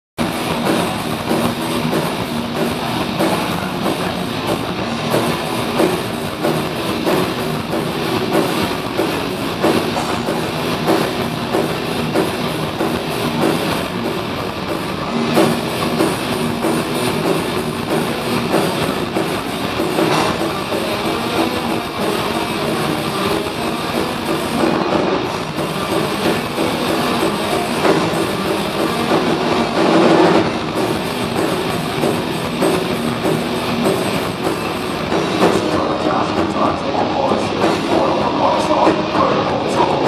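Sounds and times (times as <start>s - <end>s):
rock band playing live: 0.2s - 40.0s.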